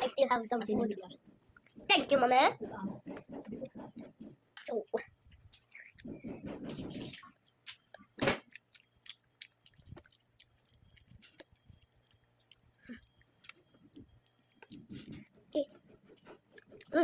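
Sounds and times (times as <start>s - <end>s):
child chewing food: 0.0s - 17.0s.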